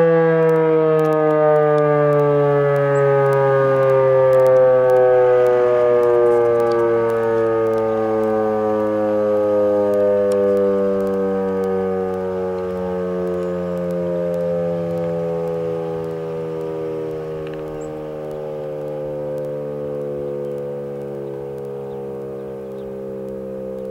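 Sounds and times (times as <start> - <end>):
outdoor warning siren steady tone: 0.0 - 23.9.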